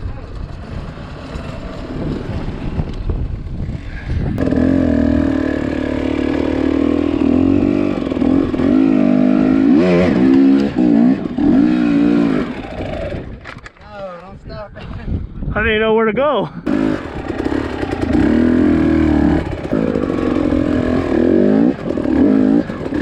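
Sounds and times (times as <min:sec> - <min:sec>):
two-stroke dirt bike engine: 0:00.0 - 0:13.6, 0:16.7 - 0:23.0.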